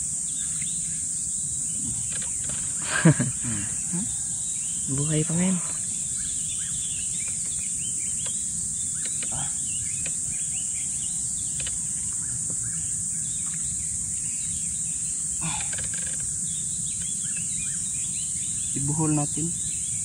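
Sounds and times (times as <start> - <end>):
high-pitched insect chorus: 0.0 - 20.0
short insect chirps: 0.0 - 20.0.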